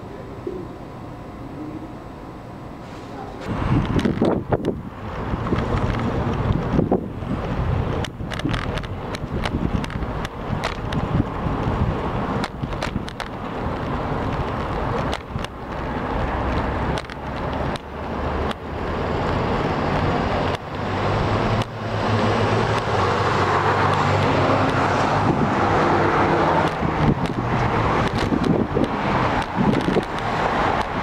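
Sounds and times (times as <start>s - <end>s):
road traffic passing: 0.0s - 31.0s.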